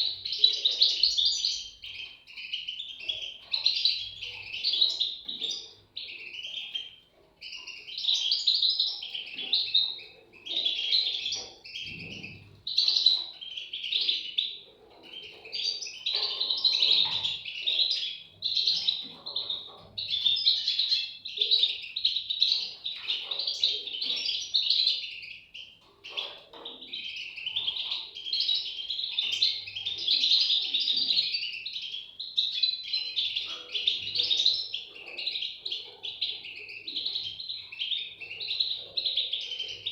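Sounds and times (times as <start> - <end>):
bird chicks chirping: 0.0 - 39.9.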